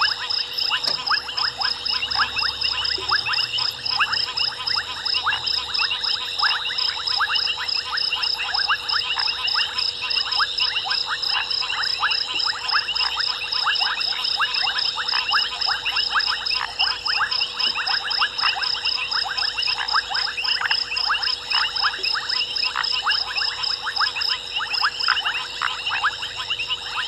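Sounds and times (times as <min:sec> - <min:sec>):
frogs clicking calls: 0:00.0 - 0:27.0.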